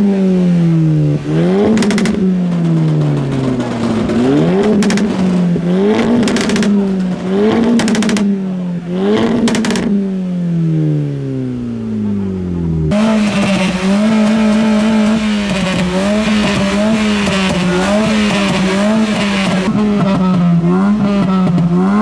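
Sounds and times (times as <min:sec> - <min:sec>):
exhaust pops and crackles: 0:00.0 - 0:10.4, 0:12.9 - 0:22.0
car engine revving: 0:00.0 - 0:22.0.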